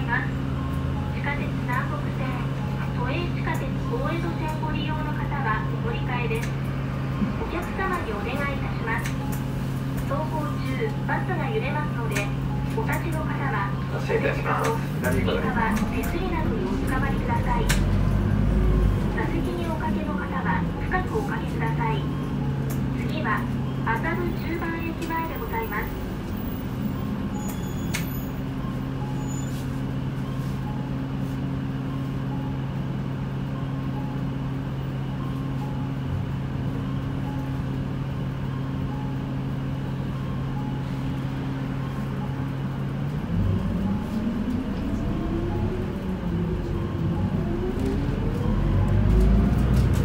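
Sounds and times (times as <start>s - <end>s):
bus diesel engine: 0.0s - 50.0s.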